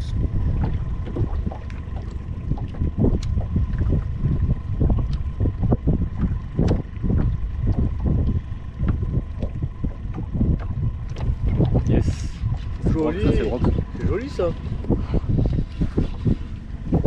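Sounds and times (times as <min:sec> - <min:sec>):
waves slapping boat hull: 0:00.0 - 0:17.0
wind buffeting microphone: 0:00.0 - 0:17.0.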